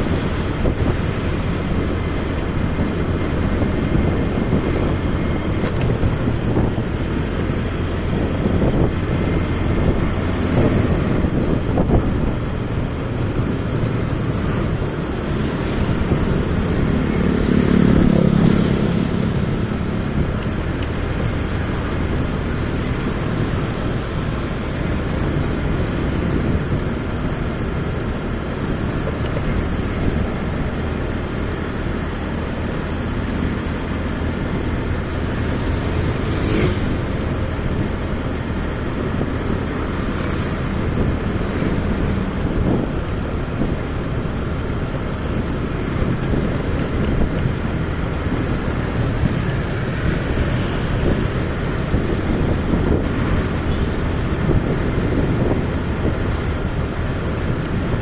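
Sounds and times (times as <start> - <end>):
traffic noise: 0.0 - 58.0.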